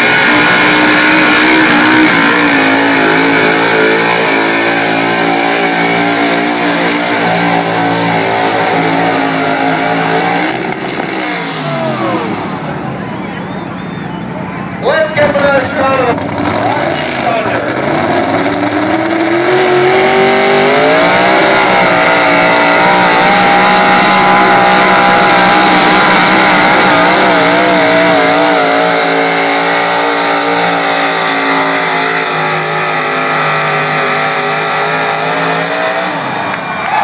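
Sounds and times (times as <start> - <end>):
truck engine revving under load: 0.0 - 37.0.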